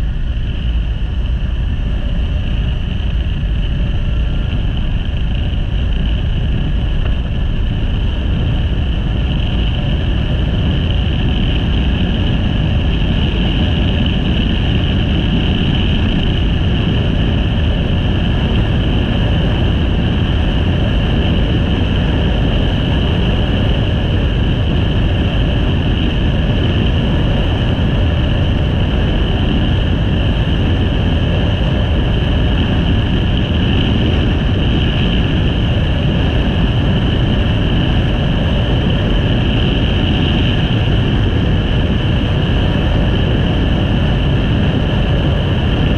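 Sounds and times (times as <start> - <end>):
steady high whine: 0.0 - 45.9
wind rush on microphone: 0.0 - 45.9.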